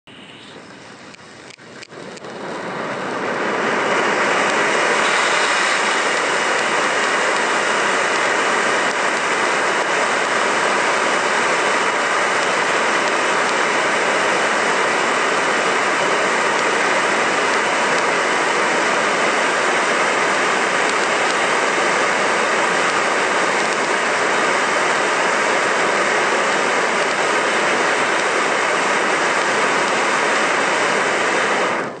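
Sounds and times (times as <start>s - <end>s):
firework fountain hissing: 0.1s - 32.0s.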